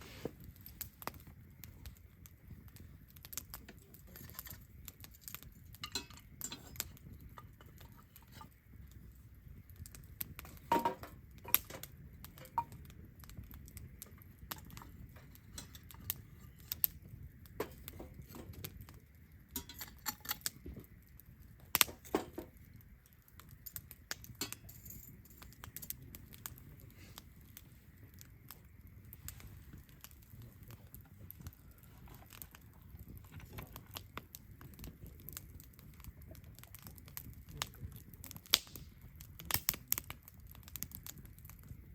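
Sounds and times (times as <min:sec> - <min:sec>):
campfire crackling and popping: 0:00.0 - 0:41.9
low rush of flames: 0:00.0 - 0:41.9.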